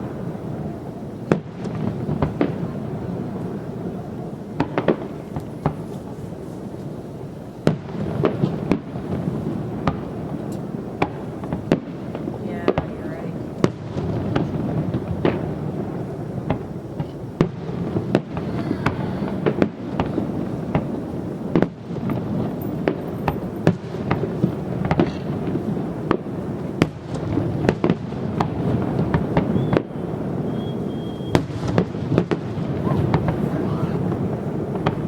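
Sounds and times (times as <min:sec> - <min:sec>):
firework bangs: 0:00.0 - 0:35.0.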